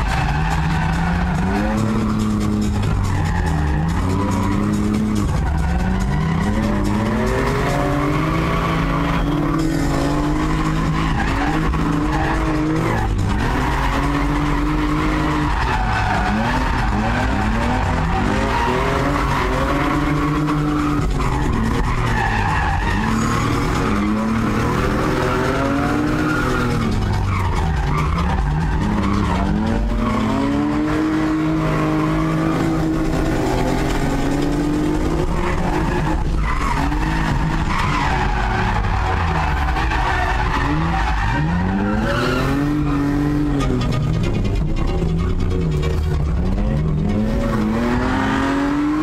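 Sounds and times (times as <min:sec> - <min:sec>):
car engine revving hard: 0:00.0 - 0:44.0, 0:46.1 - 0:49.0
tyres squealing: 0:00.0 - 0:49.0.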